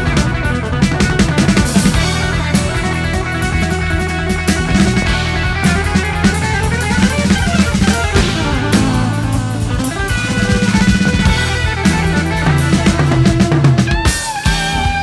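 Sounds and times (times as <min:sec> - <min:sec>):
drum kit beat: 0:00.0 - 0:15.0
rock band playing: 0:00.0 - 0:15.0.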